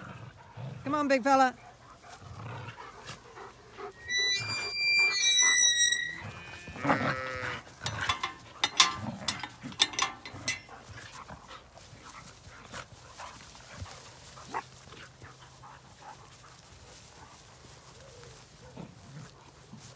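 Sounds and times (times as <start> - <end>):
dogs barking and yipping: 1.6 - 19.9.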